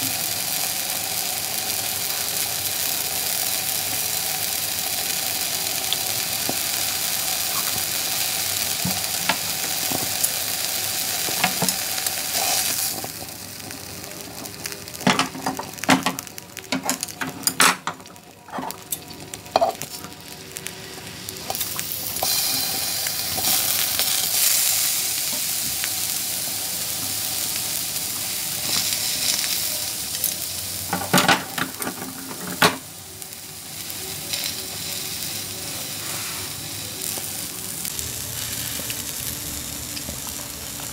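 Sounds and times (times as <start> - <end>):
food sizzling in grill pan: 0.0 - 40.9.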